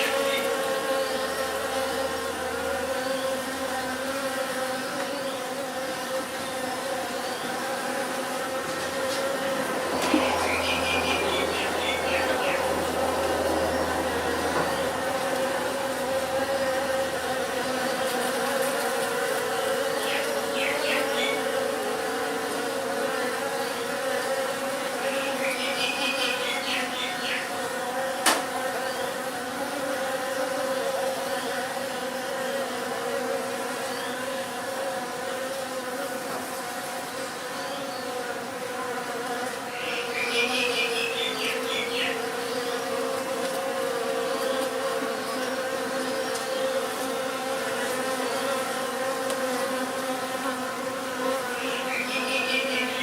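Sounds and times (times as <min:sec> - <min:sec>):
bees buzzing: 0:00.0 - 0:53.0.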